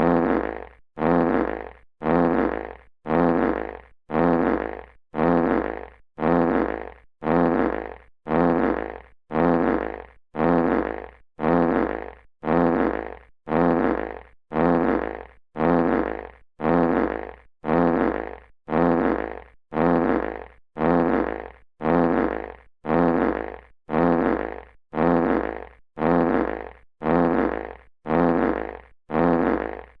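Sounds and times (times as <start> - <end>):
fart sound effect: 0.0 - 30.0.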